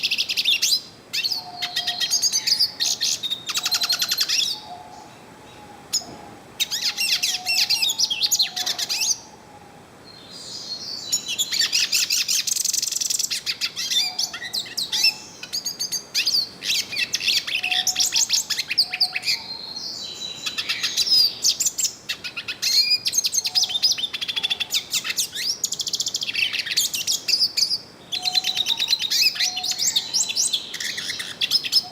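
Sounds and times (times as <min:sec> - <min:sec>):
bird twittering song: 0:00.0 - 0:09.4, 0:10.1 - 0:31.9.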